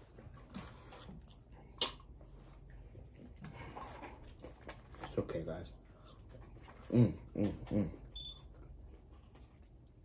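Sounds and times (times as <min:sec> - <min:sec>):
quiet chewing: 0:00.0 - 0:10.0.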